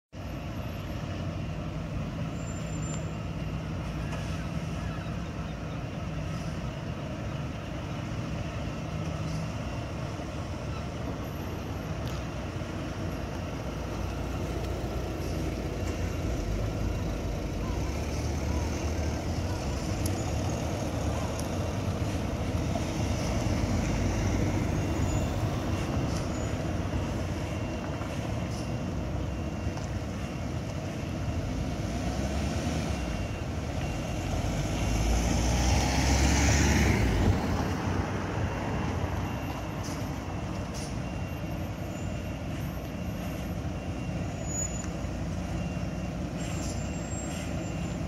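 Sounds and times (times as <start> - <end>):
diesel truck engine running: 0.1 - 48.0.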